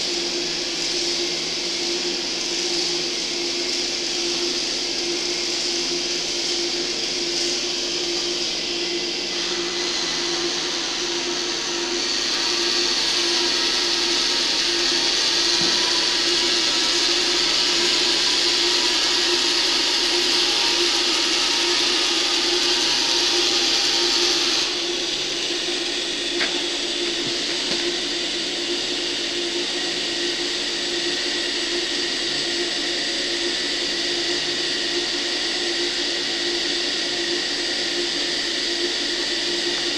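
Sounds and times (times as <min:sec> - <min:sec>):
electric motors whirring: 0:00.0 - 0:39.9.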